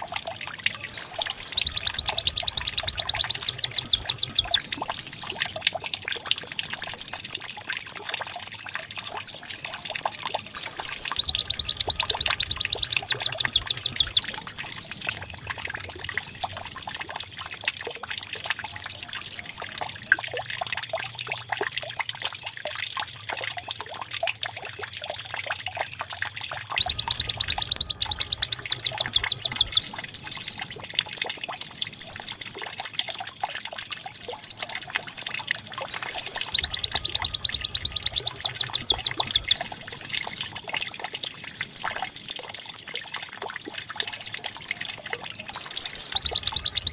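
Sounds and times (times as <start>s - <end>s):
bird song with fast trills: 0.0s - 19.8s, 26.8s - 46.9s
soft bird chirps: 0.0s - 19.9s, 26.8s - 46.9s.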